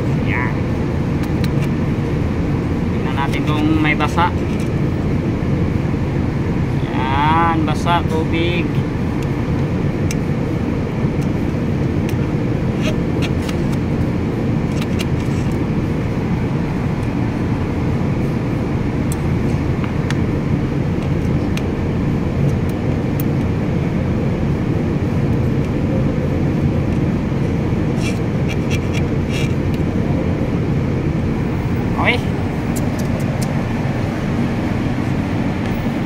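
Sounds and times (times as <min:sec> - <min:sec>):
low rumble of road traffic: 0:00.0 - 0:36.0.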